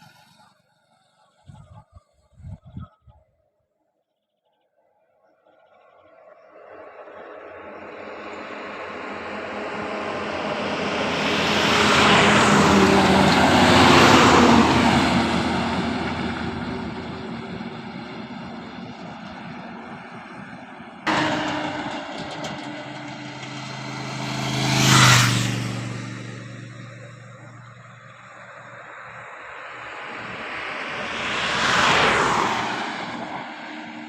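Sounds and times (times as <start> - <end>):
heavy diesel truck passing: 6.1 - 34.0
vehicle passing quickly: 6.4 - 34.0.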